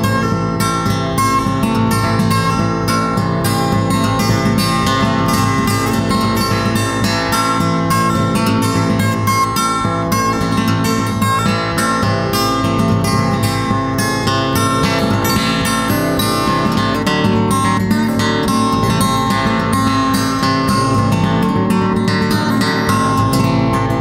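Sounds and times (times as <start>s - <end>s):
acoustic guitar plucked and strummed: 0.0s - 24.0s.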